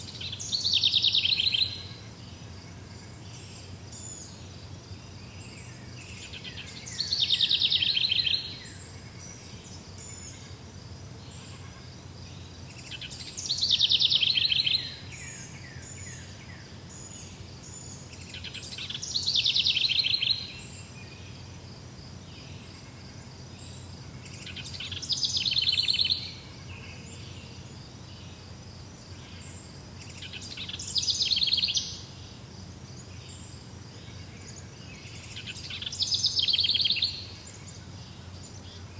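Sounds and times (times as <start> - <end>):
songbird trilling: 0.0 - 10.6, 11.3 - 21.4, 23.6 - 28.4, 29.1 - 32.3, 33.0 - 38.9
insects chirping faintly: 0.0 - 38.9.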